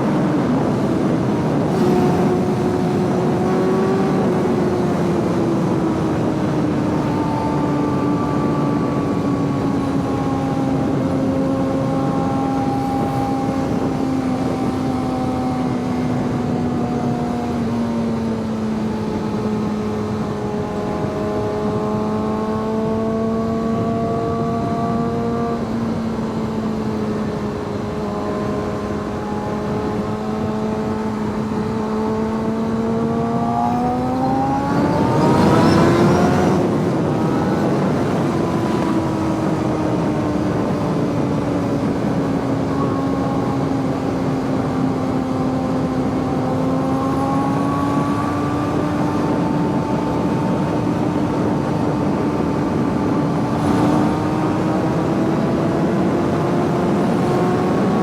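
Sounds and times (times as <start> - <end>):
motorcycle engine cruising and revving: 0.0 - 58.0.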